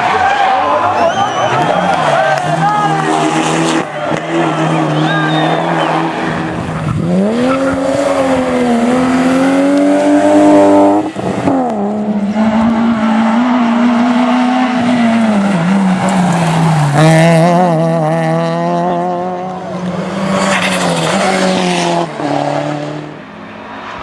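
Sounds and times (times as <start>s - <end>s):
rally car engine at high revs: 0.0s - 24.0s.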